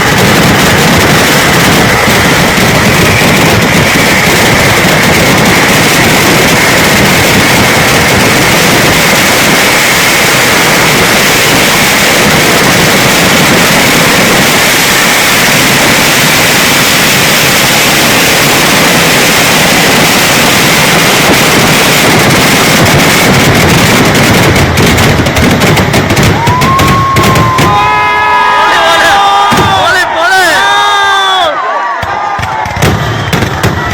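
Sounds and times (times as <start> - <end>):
firecracker blasts: 0.0 - 33.9.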